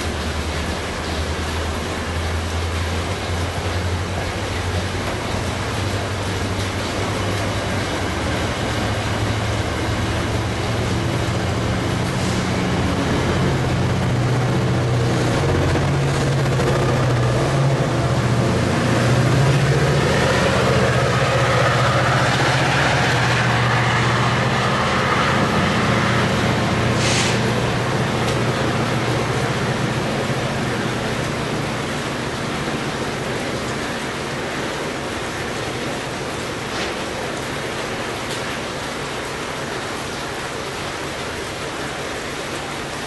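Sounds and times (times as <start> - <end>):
diesel locomotive drone: 0.0 - 43.0.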